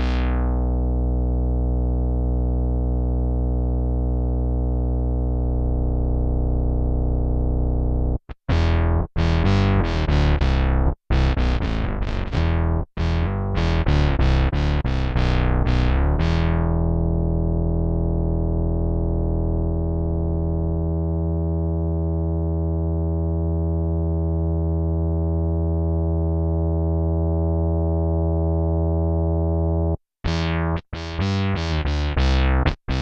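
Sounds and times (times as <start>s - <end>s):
synth electric bass notes: 0.0s - 33.0s.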